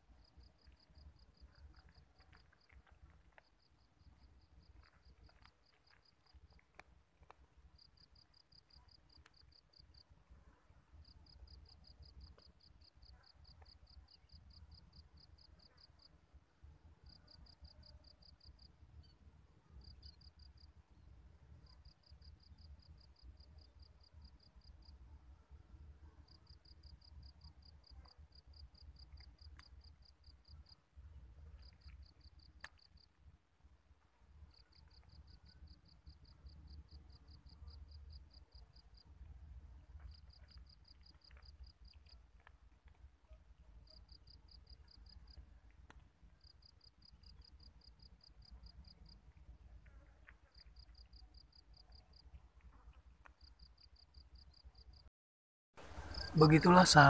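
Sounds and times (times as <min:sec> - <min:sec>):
cricket chirping: 0:00.0 - 0:06.8, 0:07.7 - 0:16.2, 0:17.0 - 0:25.1, 0:25.8 - 0:33.3, 0:34.1 - 0:55.1, 0:55.8 - 0:57.0.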